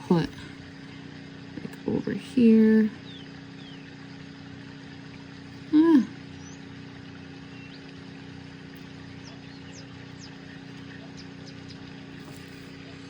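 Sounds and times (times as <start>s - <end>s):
steady low background hum: 0.0s - 13.0s.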